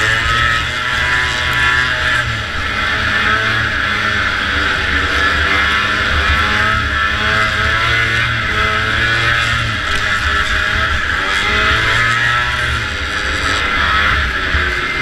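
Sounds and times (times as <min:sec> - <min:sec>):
snowmobile engine running hard: 0:00.0 - 0:15.0.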